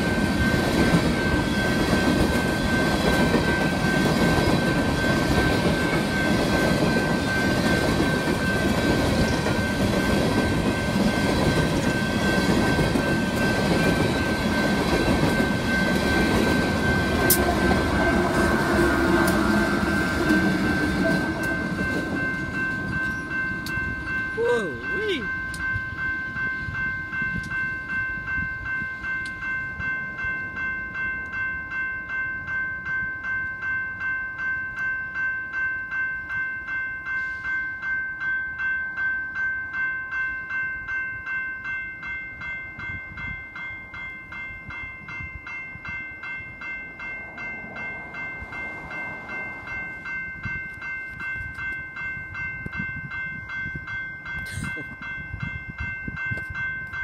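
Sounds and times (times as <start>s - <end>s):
crossing bell ringing: 0.0s - 57.0s.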